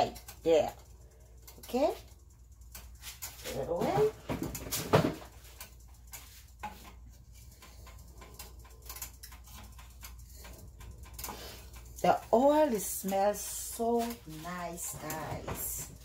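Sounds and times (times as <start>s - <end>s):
faint clicks and ticks: 0.0s - 16.0s.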